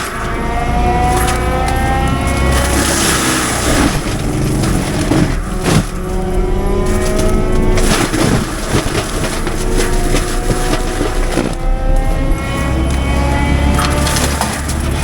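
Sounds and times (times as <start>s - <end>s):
excavator mulcher whine: 0.0s - 15.0s
wood cracking and knocking: 0.0s - 15.0s.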